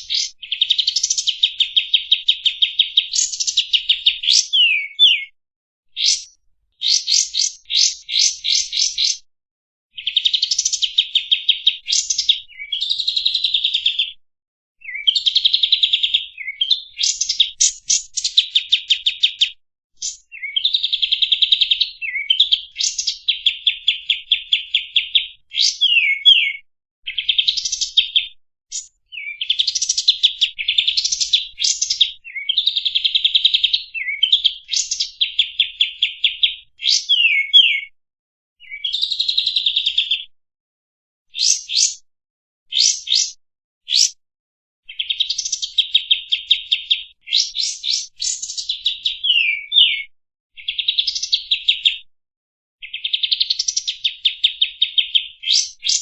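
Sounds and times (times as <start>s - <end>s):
songbird trills and whistles: 0.0s - 9.2s, 10.0s - 14.2s, 14.8s - 37.9s, 38.6s - 40.3s, 41.3s - 42.0s, 42.7s - 44.2s, 44.9s - 52.0s, 52.8s - 56.0s.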